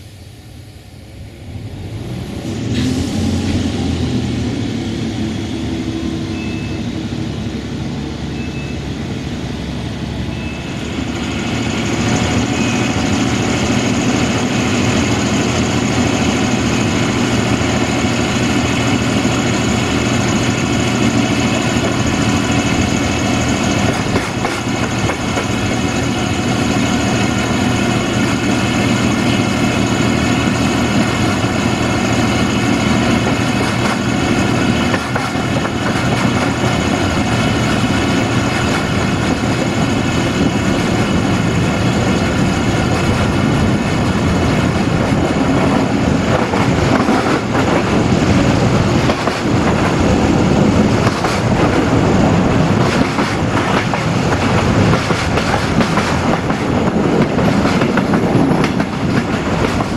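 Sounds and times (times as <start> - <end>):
diesel engine drone: 0.0 - 59.9
train running and wind noise: 0.0 - 59.9.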